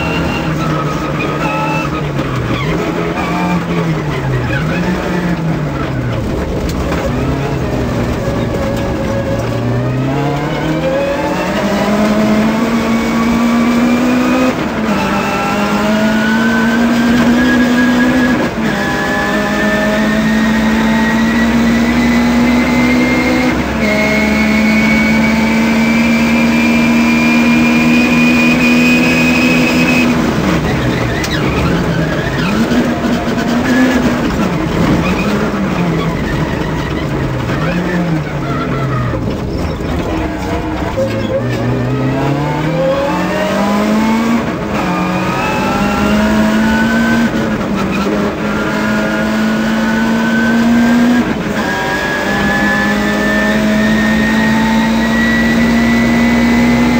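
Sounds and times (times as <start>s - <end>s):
rally car engine revving: 0.0s - 56.9s.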